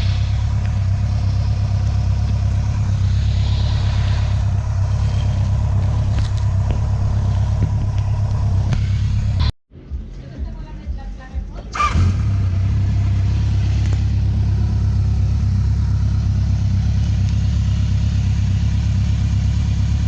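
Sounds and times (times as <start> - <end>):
motorcycle engine idling: 0.0 - 9.5, 11.7 - 20.0.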